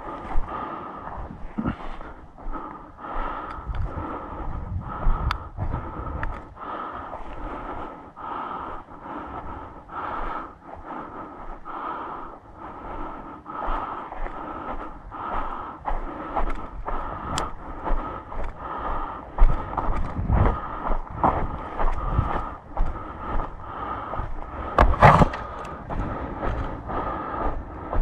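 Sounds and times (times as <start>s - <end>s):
person breathing heavily: 0.0s - 28.0s.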